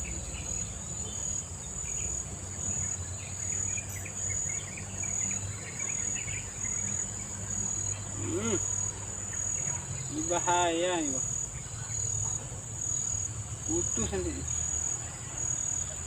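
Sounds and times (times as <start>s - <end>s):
high-pitched insect trilling: 2.8s - 15.9s.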